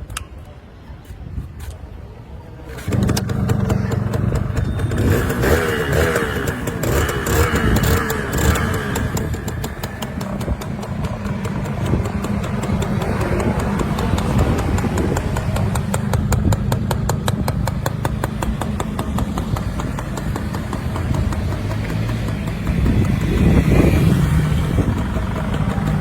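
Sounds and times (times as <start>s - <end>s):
motorcycle engine running: 2.7s - 26.0s.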